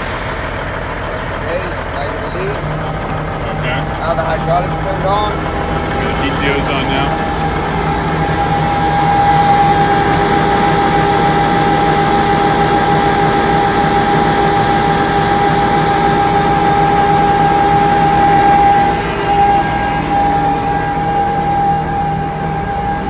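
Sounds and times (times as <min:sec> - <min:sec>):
pump whining: 0:00.0 - 0:23.0
truck engine humming: 0:00.0 - 0:23.0.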